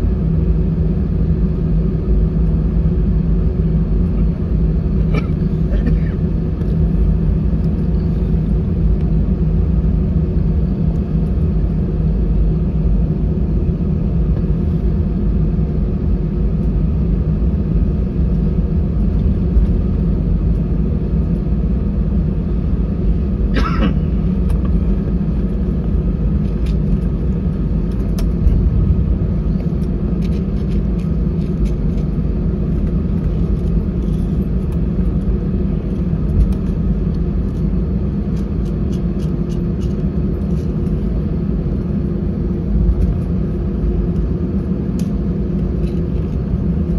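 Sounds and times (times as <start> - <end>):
aircraft cabin engine rumble: 0.0 - 46.9.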